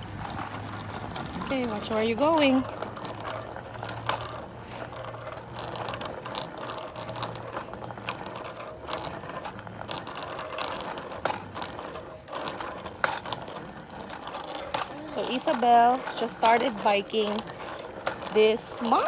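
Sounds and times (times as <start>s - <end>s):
bicycle freewheel ticking: 0.0s - 19.0s
tyres rolling on pavement: 0.0s - 19.0s.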